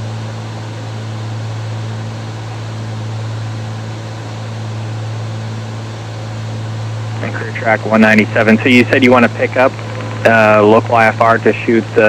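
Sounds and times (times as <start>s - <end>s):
airplane propeller engines droning: 0.0s - 12.0s.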